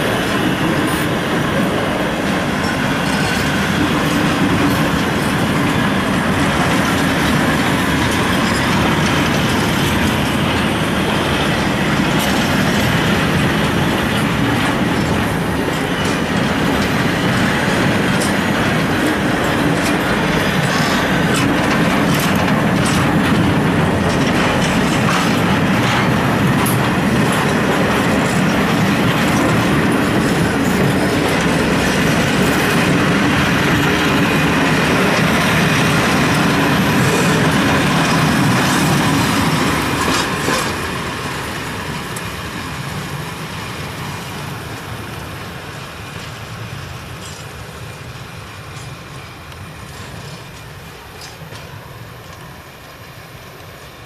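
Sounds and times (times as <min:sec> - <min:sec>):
train wheels rumbling and clicking: 0:00.0 - 0:54.0.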